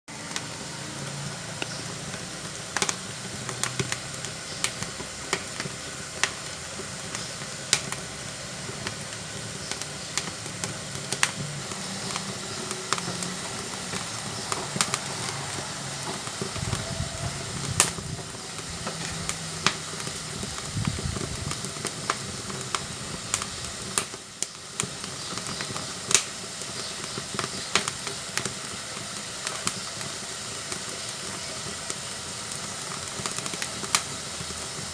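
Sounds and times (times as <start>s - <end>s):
fire hissing: 0.1s - 34.9s
firewood crackling and popping: 0.1s - 34.9s
low rumble of stove: 0.1s - 34.9s.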